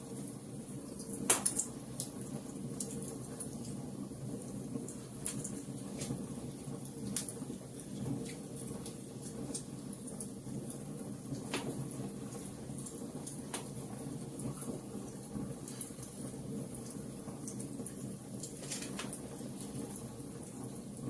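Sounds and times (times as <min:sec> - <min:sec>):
fire popping and snapping: 0:00.0 - 0:21.0
wood fire crackling: 0:00.0 - 0:21.0.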